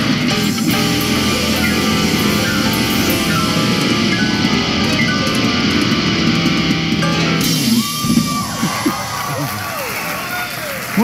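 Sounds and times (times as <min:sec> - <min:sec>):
loud rock music: 0:00.0 - 0:09.6.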